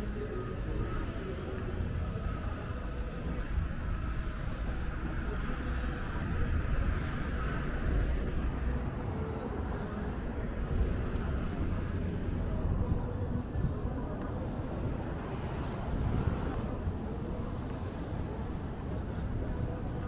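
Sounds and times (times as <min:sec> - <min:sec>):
car traffic rumble: 0:00.0 - 0:20.0.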